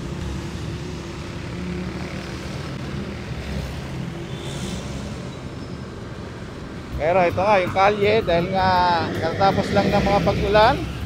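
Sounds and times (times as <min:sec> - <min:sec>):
road traffic: 0:00.0 - 0:11.0
vehicle engine humming: 0:00.0 - 0:11.0.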